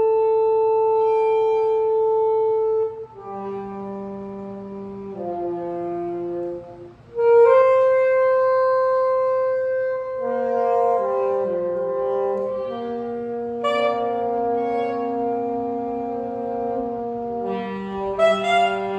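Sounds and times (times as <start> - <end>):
saxophones playing held notes: 0.0 - 18.9.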